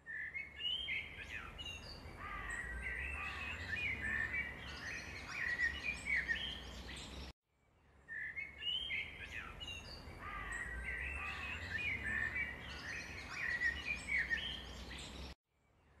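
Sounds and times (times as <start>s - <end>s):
birds chirping: 0.0s - 7.3s, 8.0s - 15.4s.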